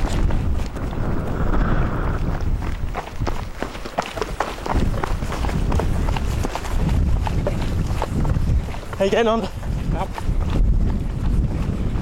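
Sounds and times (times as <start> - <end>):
running footsteps: 0.0 - 12.0
wind rumble on microphone: 0.0 - 12.0.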